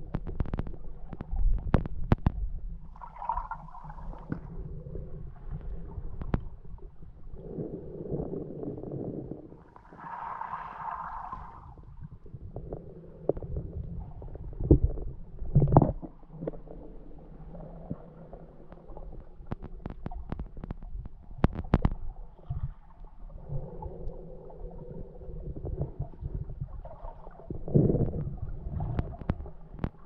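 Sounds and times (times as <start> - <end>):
underwater rumbling and gurgling: 0.0 - 30.0.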